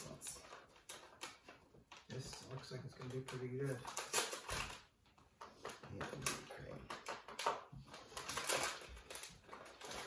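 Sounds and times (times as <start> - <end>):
chip bag crinkling: 0.0 - 10.0.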